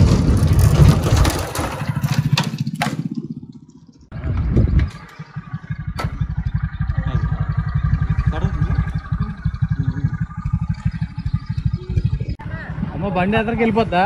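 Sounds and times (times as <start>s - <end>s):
motorcycle engine idling: 0.1s - 14.0s.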